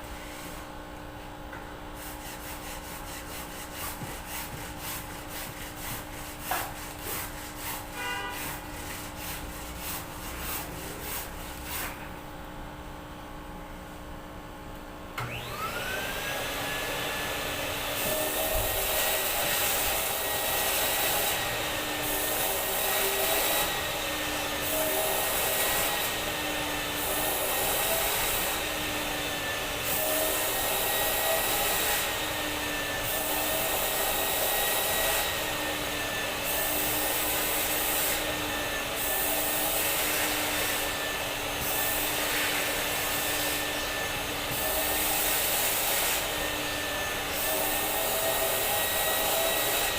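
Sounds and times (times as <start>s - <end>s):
vacuum cleaner running: 2.0s - 12.1s, 15.2s - 49.9s.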